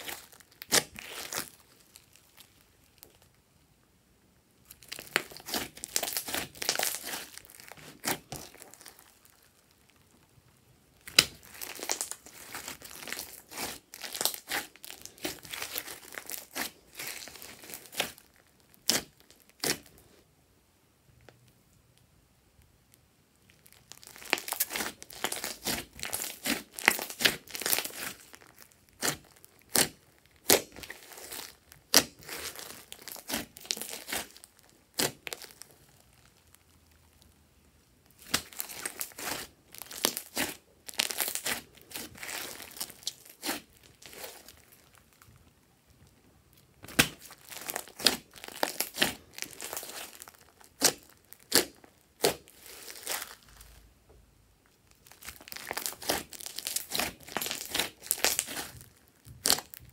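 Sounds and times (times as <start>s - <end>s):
hands squishing slime: 0.0s - 3.2s, 4.7s - 10.0s, 10.9s - 20.0s, 23.5s - 36.8s, 38.1s - 45.2s, 46.5s - 53.8s, 55.0s - 59.9s
slime crackles and pops: 0.0s - 3.4s, 4.6s - 20.0s, 22.6s - 53.8s, 54.6s - 59.9s.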